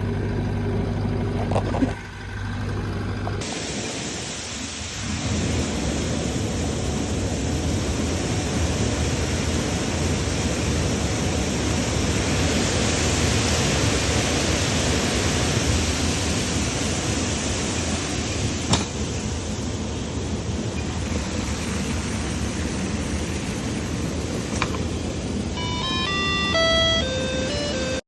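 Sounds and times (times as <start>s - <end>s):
combine harvester running: 0.0s - 28.0s.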